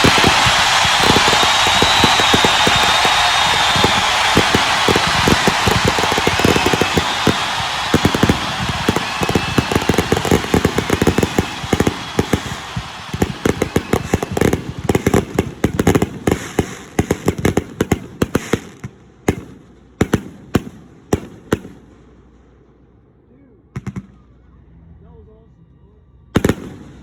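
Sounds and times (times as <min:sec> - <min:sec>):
fireworks bangs and crackles: 0:00.0 - 0:23.0, 0:23.8 - 0:24.5, 0:26.4 - 0:27.0.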